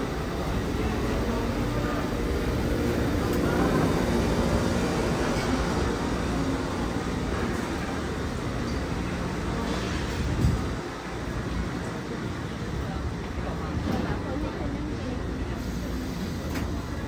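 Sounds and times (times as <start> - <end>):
murmur of voices: 0.0 - 17.0.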